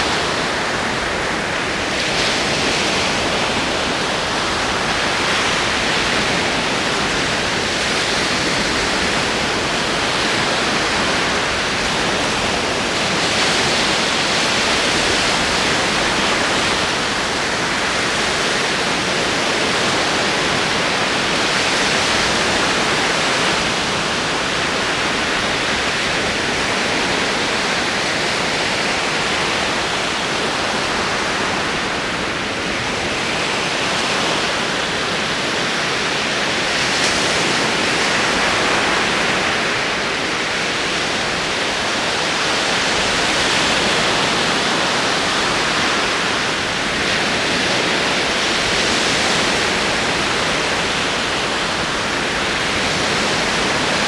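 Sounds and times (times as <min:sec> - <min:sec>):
ocean waves on shore: 0:00.0 - 0:54.0.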